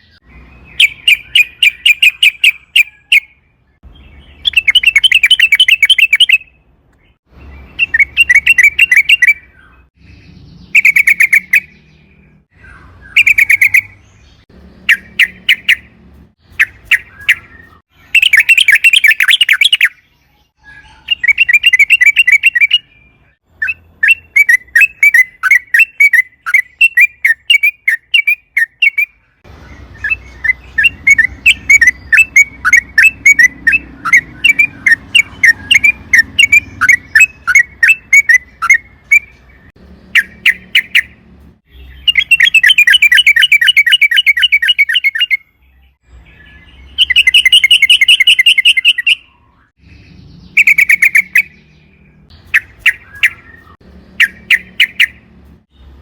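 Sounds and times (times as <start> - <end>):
bird singing rolling trills: 0.0 - 56.0
quick repeated bird chirps: 0.0 - 56.0.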